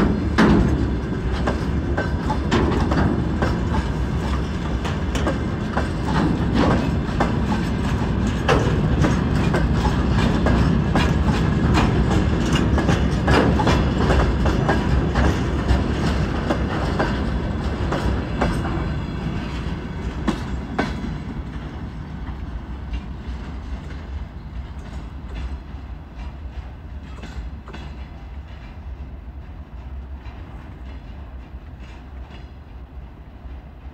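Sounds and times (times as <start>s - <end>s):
wheel clacks over rail joints: 0.0s - 32.6s
freight train rumbling: 0.0s - 33.9s.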